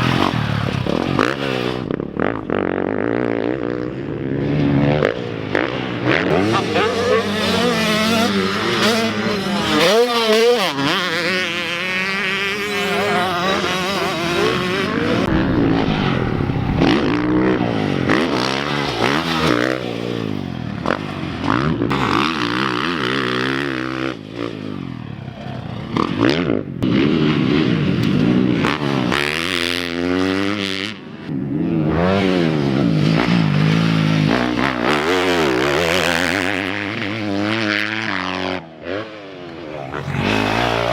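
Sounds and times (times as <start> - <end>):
dirt bikes revving: 0.0 - 40.9.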